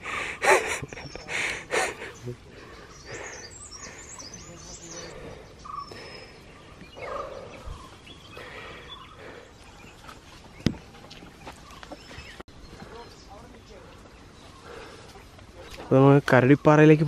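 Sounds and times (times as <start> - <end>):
chattering bird calls: 0.0 - 17.0
people walking through undergrowth: 0.7 - 17.0.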